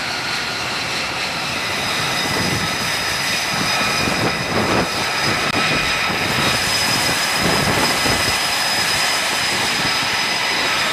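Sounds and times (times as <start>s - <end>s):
jet engines roaring: 0.0s - 10.9s.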